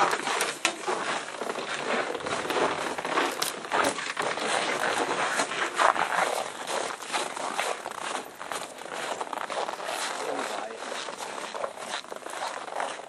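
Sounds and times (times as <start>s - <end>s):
footsteps crunching and rustling: 0.0s - 13.0s.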